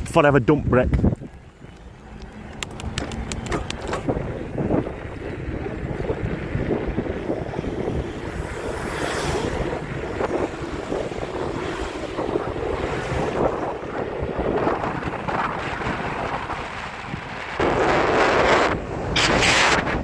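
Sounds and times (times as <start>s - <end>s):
tyres rumbling over rough track: 0.0s - 20.0s
wind on microphone: 0.0s - 20.0s.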